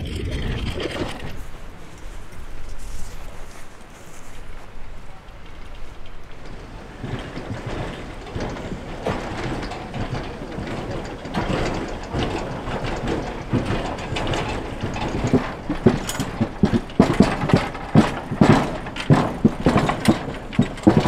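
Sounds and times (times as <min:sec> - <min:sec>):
clanks and knocks from wheels: 0:00.0 - 0:02.6, 0:03.4 - 0:21.0
boat carriage rolling on rails: 0:00.0 - 0:21.0.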